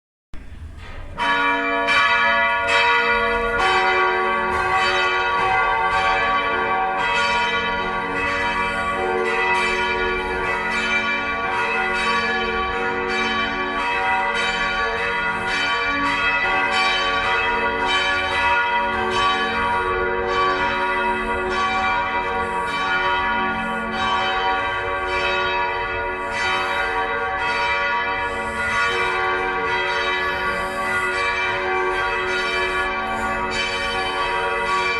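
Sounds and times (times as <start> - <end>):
church bells pealing: 0.4 - 34.9.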